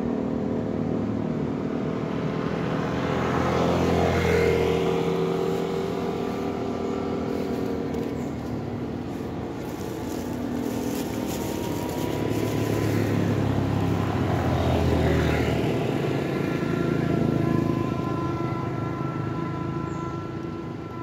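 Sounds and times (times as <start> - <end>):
motorcycle engines passing: 0.0 - 21.0.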